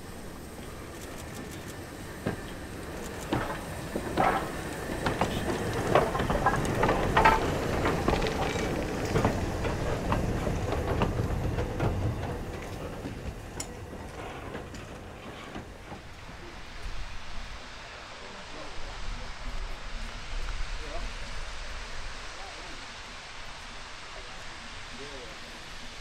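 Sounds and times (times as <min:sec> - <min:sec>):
locomotive low rumble: 0:00.0 - 0:26.0
steam locomotive wheels clanking: 0:00.0 - 0:26.0.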